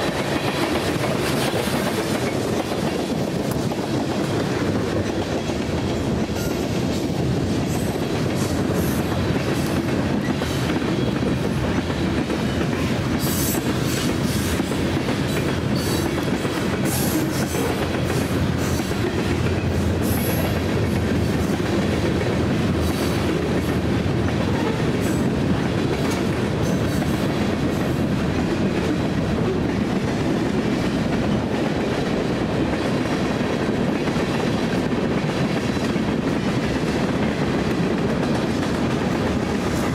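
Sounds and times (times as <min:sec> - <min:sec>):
clickety-clack over rail joints: 0:00.0 - 0:39.9
freight train wheels rumbling: 0:00.0 - 0:39.9.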